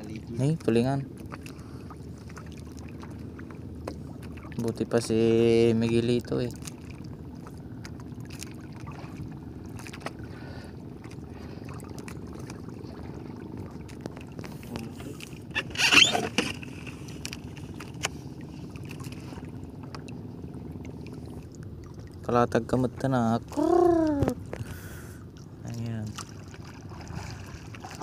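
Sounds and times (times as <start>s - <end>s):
boat motor drone: 0.0s - 28.0s
water noise: 0.0s - 28.0s.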